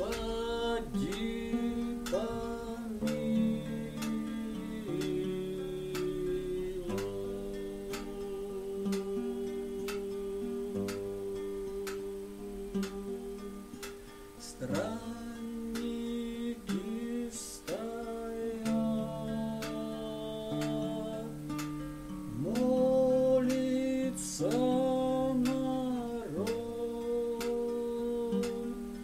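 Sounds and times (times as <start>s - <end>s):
man singing: 0.0s - 29.0s
strummed classical guitar: 0.0s - 29.0s.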